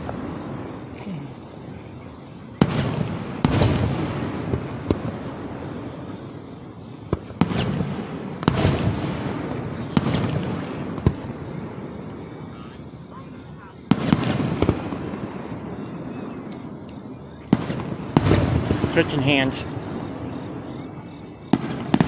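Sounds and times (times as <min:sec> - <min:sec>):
fireworks bursting with echo: 0:00.0 - 0:22.0.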